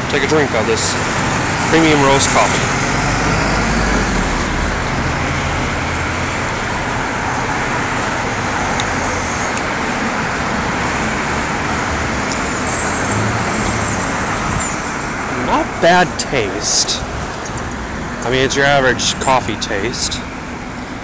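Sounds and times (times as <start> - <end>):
road traffic rush: 0.0 - 21.0
low engine hum: 1.0 - 21.0.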